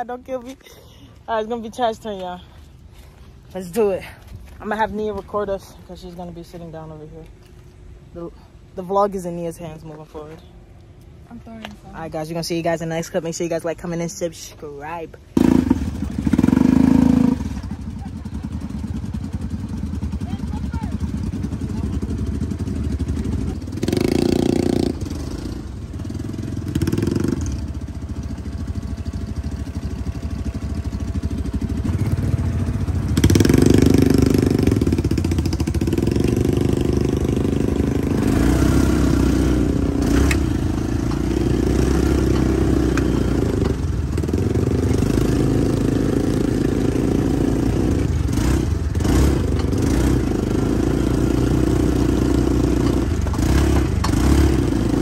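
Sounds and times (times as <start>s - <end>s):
off-road vehicle engine: 0.0s - 55.0s.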